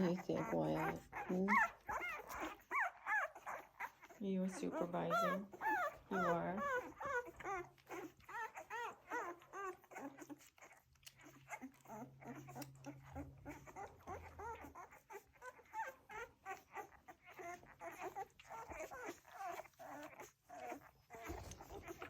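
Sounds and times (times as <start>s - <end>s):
puppies whimpering: 0.0s - 22.0s.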